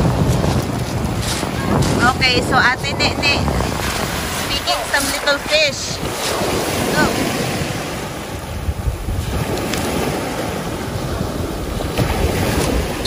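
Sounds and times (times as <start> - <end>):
surf on shingle beach: 0.0 - 13.0
wind buffeting microphone: 0.0 - 13.0.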